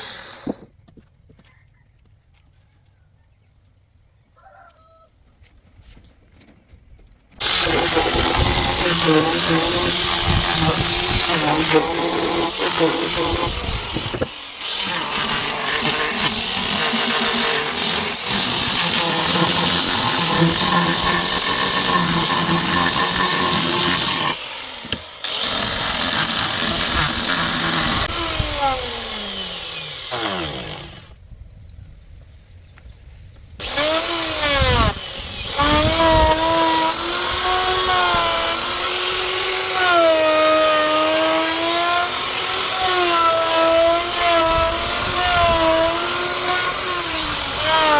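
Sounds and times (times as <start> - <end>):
power tool motor on wood: 0.0 - 0.7, 7.4 - 31.2, 33.6 - 47.9.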